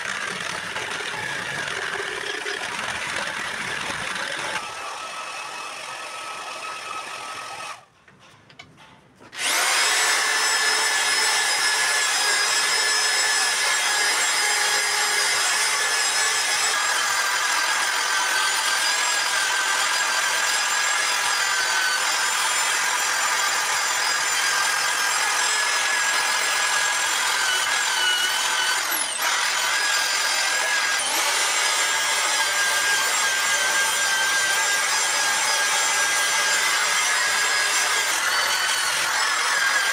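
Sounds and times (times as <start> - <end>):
angle grinder grinding wood: 0.0 - 7.8, 9.4 - 23.1, 23.7 - 39.9.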